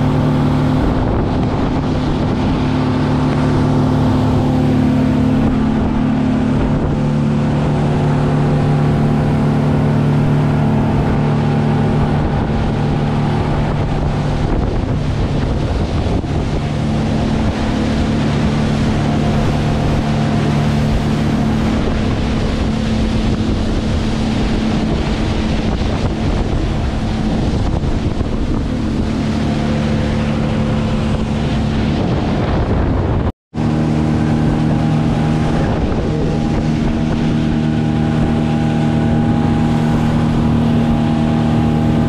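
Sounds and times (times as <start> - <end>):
motorboat engine droning: 0.0 - 42.0
rushing water: 0.0 - 42.0
wind buffeting microphone: 0.0 - 42.0.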